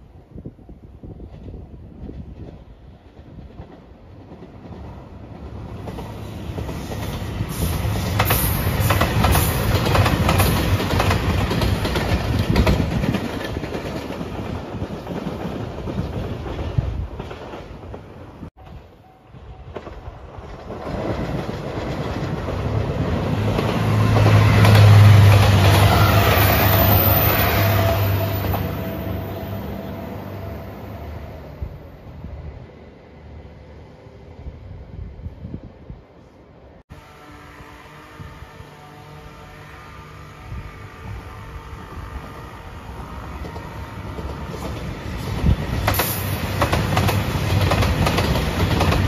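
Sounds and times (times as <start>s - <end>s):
diesel train passing: 0.0s - 49.0s.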